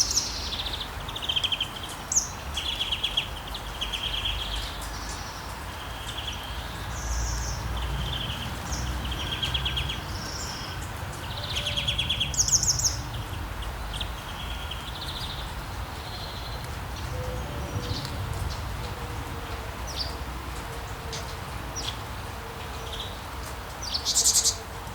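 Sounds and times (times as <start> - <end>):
songbirds chirping and trilling: 0.0 - 24.9
steady rain falling: 0.0 - 24.9.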